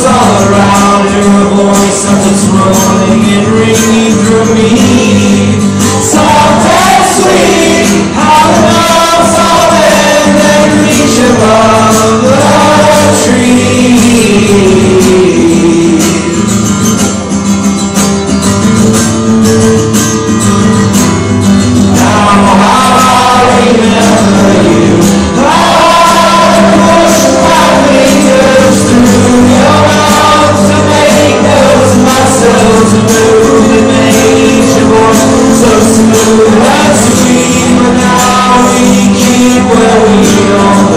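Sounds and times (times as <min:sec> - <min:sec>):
person singing: 0:00.0 - 0:17.0, 0:21.9 - 0:40.9
acoustic guitar strumming: 0:00.0 - 0:40.9.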